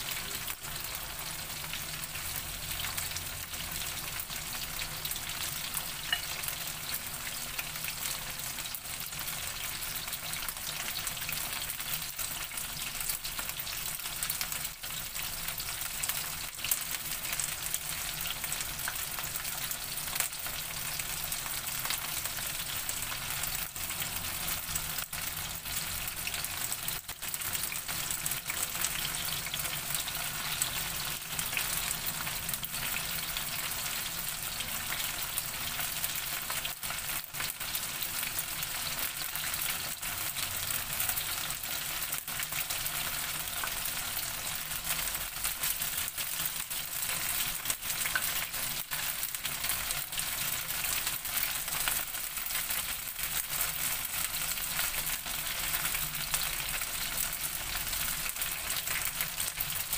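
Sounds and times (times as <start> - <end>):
oil sizzling and crackling: 0.0 - 59.9.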